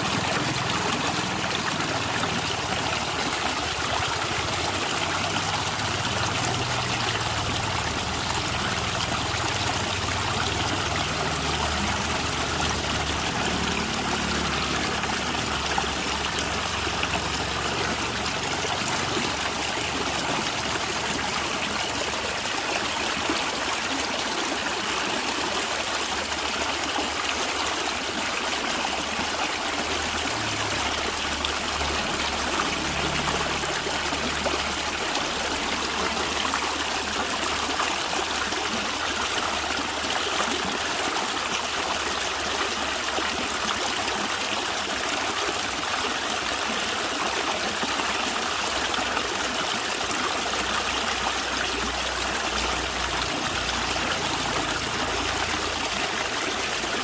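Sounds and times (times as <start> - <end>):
stream of water trickling: 0.0 - 57.0.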